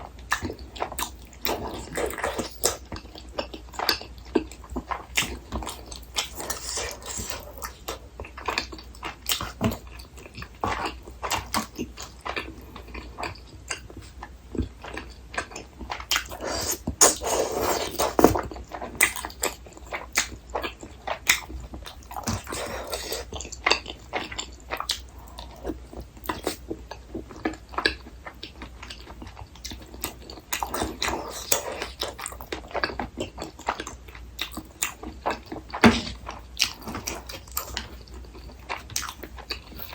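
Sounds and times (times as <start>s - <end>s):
chewing and mouth smacking: 0.2s - 39.9s.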